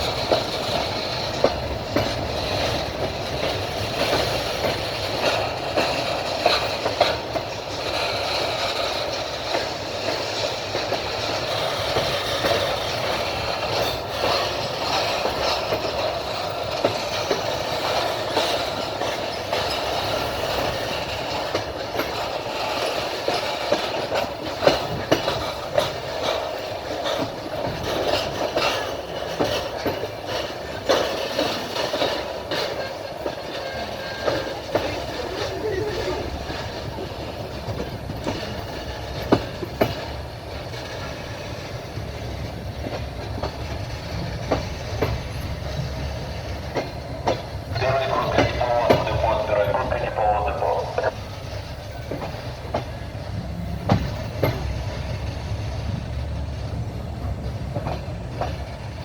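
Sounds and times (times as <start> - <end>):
wheels clicking over rail joints: 0.0 - 49.1, 51.5 - 59.0
train wheels rumbling on rails: 0.0 - 59.0.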